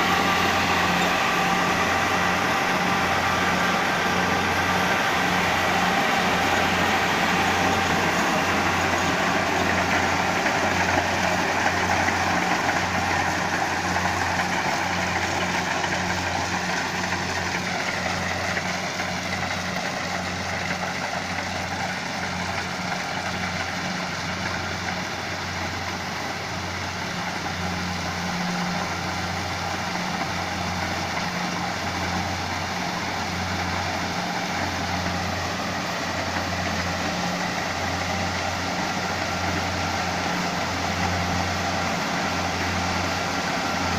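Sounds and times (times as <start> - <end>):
harvester engine droning: 0.0 - 43.9.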